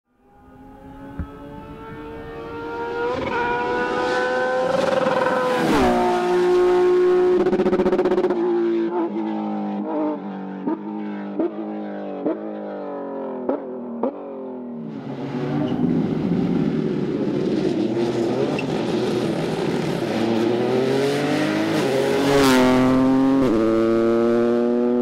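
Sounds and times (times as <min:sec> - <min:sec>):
rally car engine at high revs: 0:00.2 - 0:12.6, 0:15.0 - 0:25.0.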